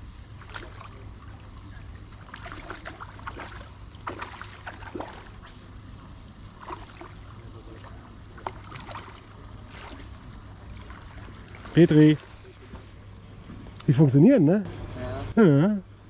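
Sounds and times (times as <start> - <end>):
water splashing and sloshing: 0.0 - 13.8.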